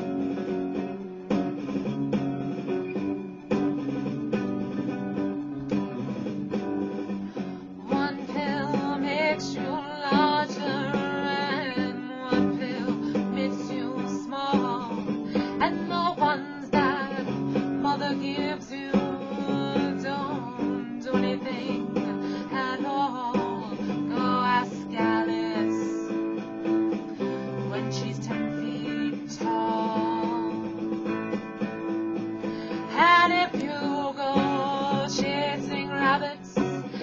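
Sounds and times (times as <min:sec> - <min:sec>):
guitar plucked and strummed: 0:00.0 - 0:37.0.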